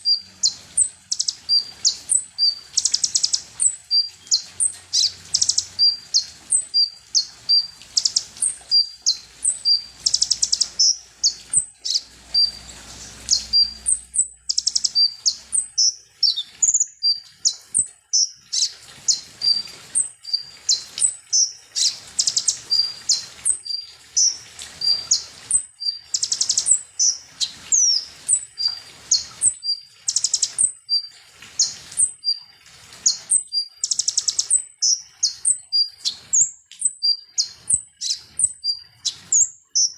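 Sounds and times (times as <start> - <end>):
sunbird singing: 0.0 - 32.4, 33.1 - 39.9.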